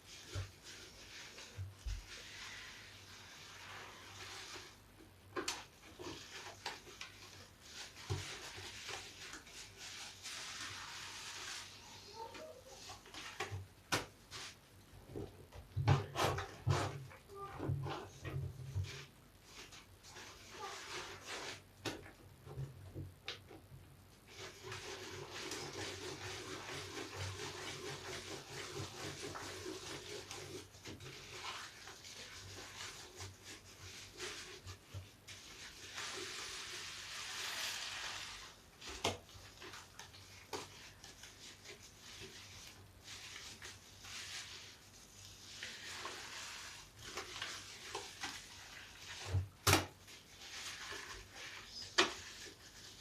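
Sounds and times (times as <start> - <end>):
wet sponge squelching: 0.0 - 14.7, 16.0 - 21.7, 24.2 - 53.0.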